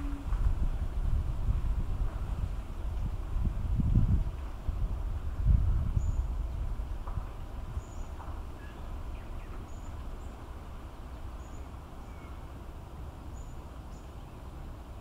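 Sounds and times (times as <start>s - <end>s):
wind rumble on microphone: 0.0s - 13.5s.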